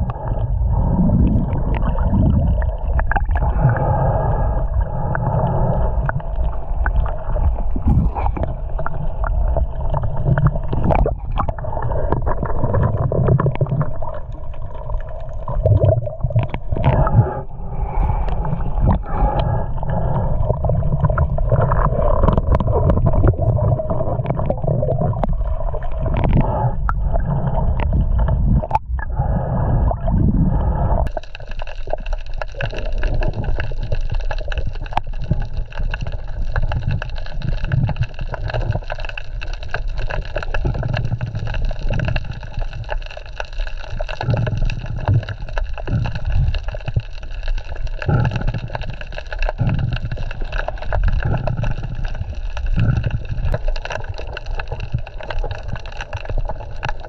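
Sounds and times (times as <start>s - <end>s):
muffled underwater water rushing: 0.0s - 57.0s.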